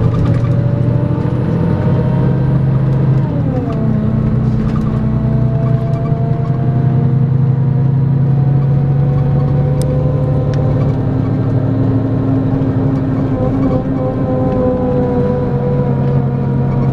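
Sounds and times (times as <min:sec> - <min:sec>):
diesel coach engine pulling: 0:00.0 - 0:16.9.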